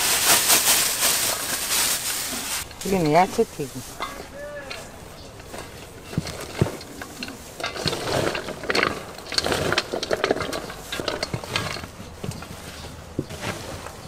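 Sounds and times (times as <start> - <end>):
utensils clicking and scraping: 0.1 - 14.0.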